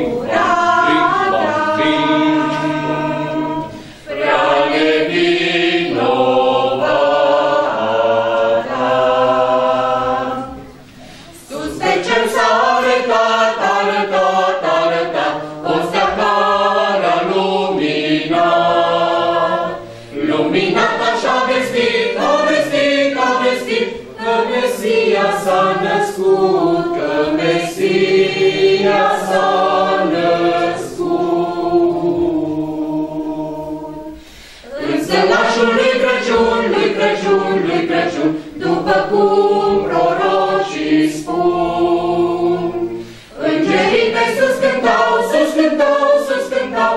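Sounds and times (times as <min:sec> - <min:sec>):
group singing unaccompanied: 0:00.0 - 0:46.9.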